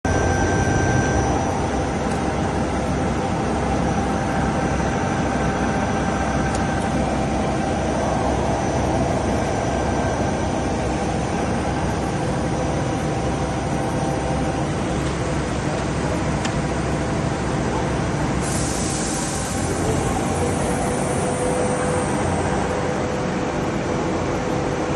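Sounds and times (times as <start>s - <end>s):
thin high whine: 0.1s - 16.2s, 17.7s - 24.9s
boring machine running: 0.1s - 24.9s.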